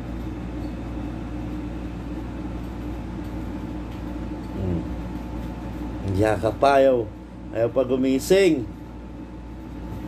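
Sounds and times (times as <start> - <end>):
low droning hum: 0.0 - 10.0.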